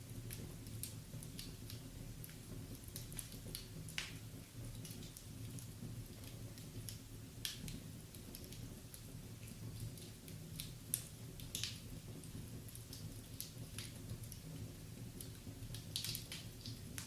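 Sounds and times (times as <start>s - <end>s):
low fire rumble: 0.0s - 17.0s
wood fire pops and snaps: 0.1s - 17.0s.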